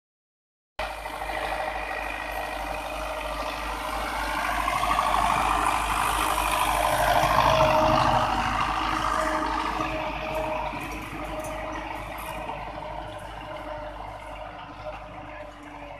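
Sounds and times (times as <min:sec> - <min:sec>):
tractor diesel engine under load: 0:00.8 - 0:15.9.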